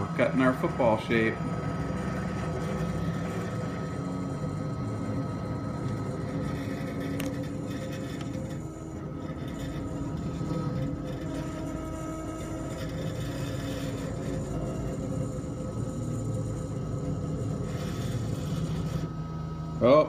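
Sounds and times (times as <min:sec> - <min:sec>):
laser cutter humming and whining: 0:00.0 - 0:20.0.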